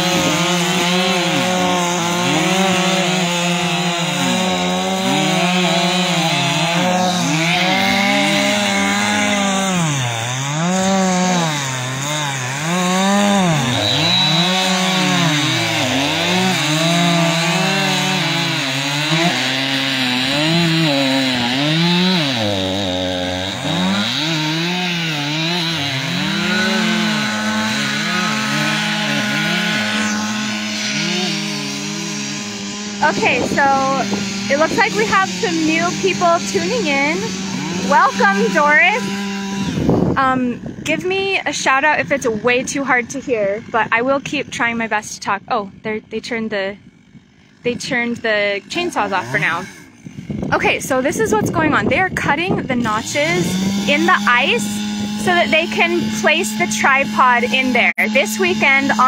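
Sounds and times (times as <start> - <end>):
chainsaws cutting ice: 0.0 - 59.0.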